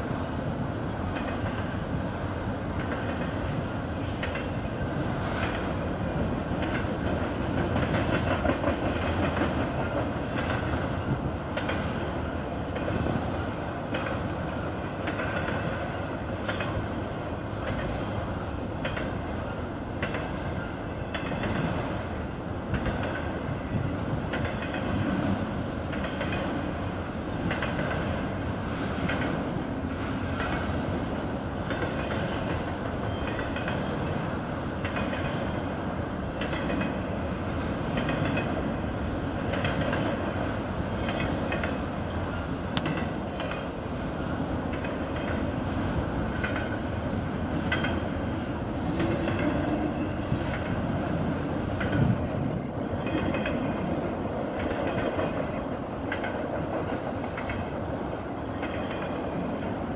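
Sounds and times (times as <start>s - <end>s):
steel wheels on rails: 0.0s - 59.9s.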